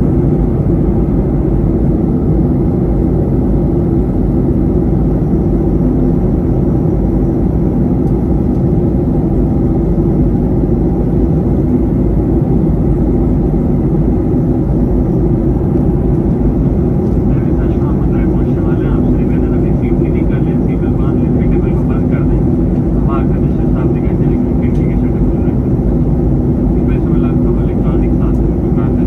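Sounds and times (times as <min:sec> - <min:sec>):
jet cabin engine rush: 0:00.0 - 0:29.0.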